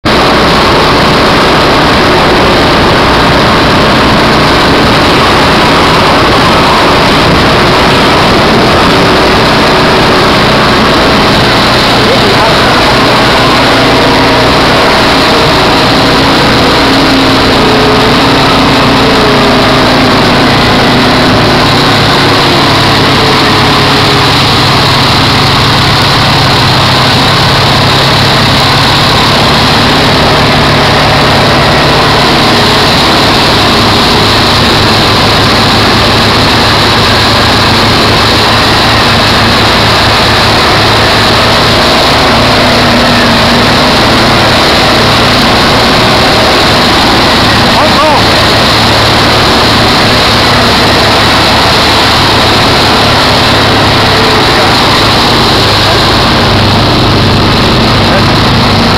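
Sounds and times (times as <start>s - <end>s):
quad bike engines under load: 0.0s - 58.9s
water splashing: 0.1s - 58.9s.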